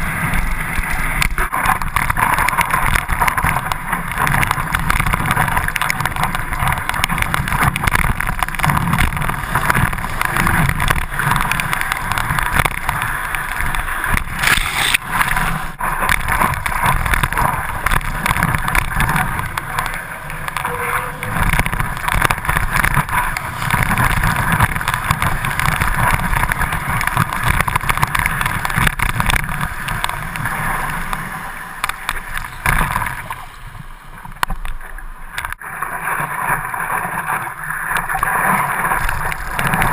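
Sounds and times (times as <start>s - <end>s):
wind buffeting microphone: 0.0s - 34.0s
water splashing against paddleboard: 0.0s - 39.9s.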